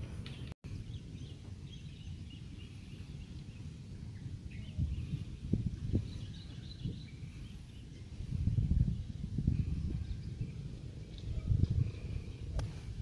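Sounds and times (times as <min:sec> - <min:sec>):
low rumbling background noise: 0:00.0 - 0:13.0
faint bird chirps: 0:00.2 - 0:12.6.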